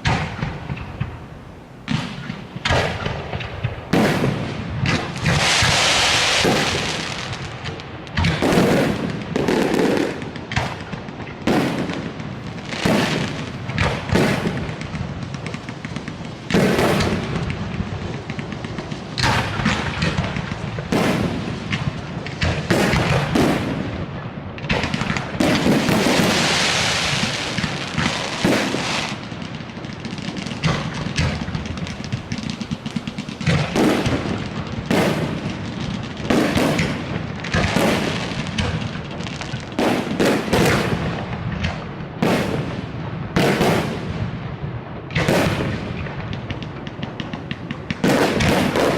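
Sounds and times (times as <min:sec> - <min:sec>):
firework crackle and fizzing: 0:00.0 - 0:48.9
firework shells booming: 0:00.0 - 0:48.9.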